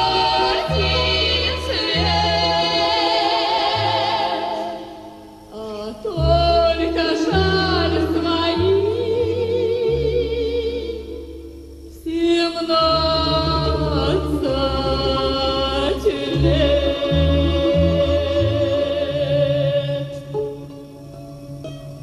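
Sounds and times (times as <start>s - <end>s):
pop song with held vocal notes: 0.0s - 20.9s.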